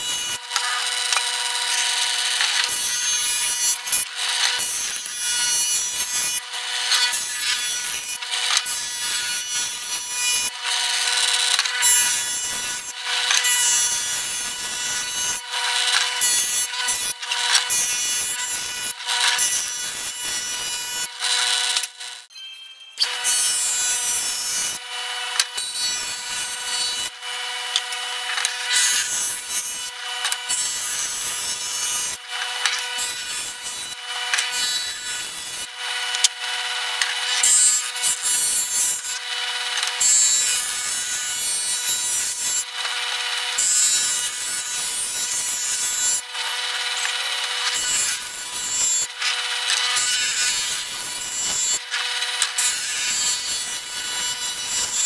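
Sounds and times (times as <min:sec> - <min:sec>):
wood jointer whining: 0:00.0 - 0:22.2, 0:23.0 - 0:55.0
rasping wood cutting: 0:00.0 - 0:22.3, 0:23.0 - 0:55.0.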